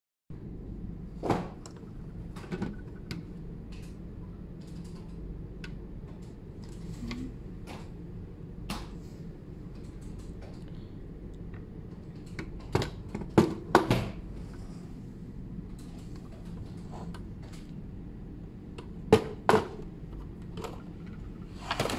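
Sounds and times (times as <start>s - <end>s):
steady low hum: 0.3s - 21.9s.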